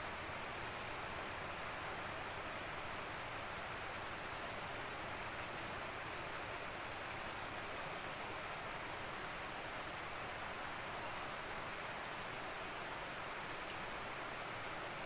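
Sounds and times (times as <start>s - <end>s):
fast-flowing river rushing: 0.0s - 15.0s.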